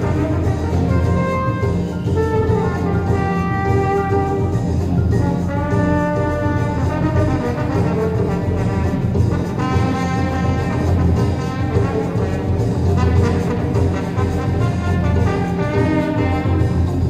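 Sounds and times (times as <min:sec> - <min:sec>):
brass long held notes: 0:00.0 - 0:17.0
dense low accompaniment: 0:00.0 - 0:17.0.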